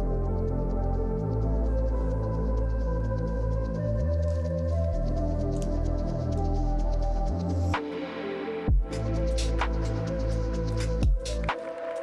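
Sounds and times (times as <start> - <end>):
background music with bass line: 0.0 - 11.6.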